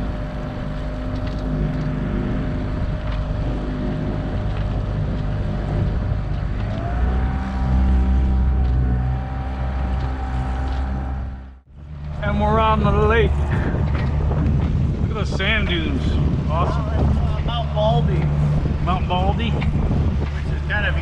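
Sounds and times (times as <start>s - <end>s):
boat motor running: 0.0s - 21.0s.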